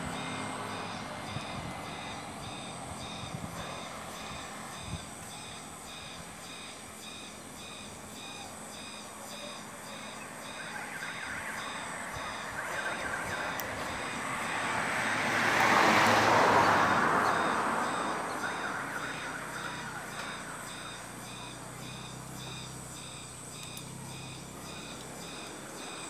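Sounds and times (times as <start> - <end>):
passing vehicle: 0.0 - 26.0.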